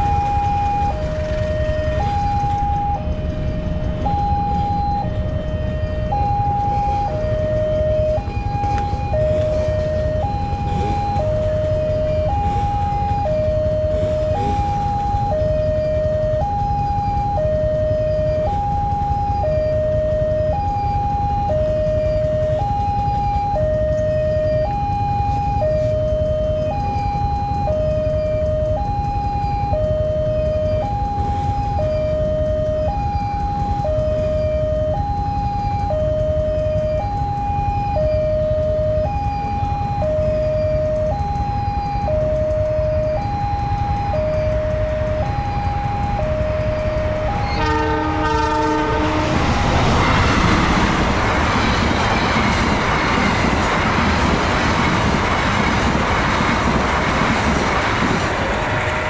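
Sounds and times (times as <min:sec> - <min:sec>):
level crossing two-tone siren: 0:00.0 - 0:55.2
steady low rumble: 0:00.0 - 0:59.0.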